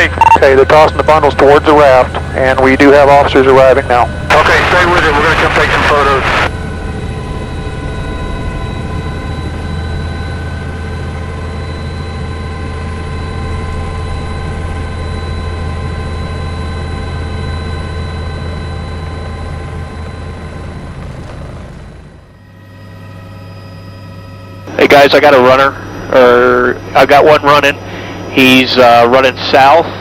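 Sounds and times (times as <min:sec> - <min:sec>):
aircraft turbine engine drone: 0:00.0 - 0:30.0.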